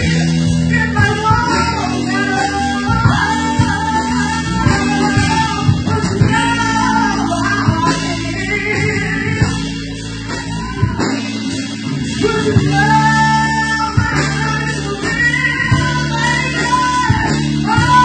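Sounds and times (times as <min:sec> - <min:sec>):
bass: 0:00.0 - 0:18.0
bending lead melody: 0:00.0 - 0:18.0
drum kit beat: 0:00.0 - 0:18.0
electric guitars: 0:00.0 - 0:18.0.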